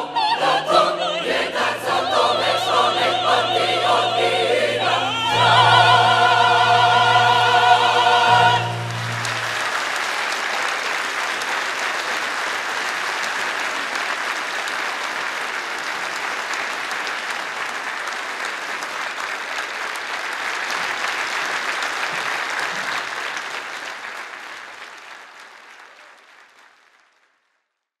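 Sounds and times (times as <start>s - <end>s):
audience applauding: 1.3s - 27.6s.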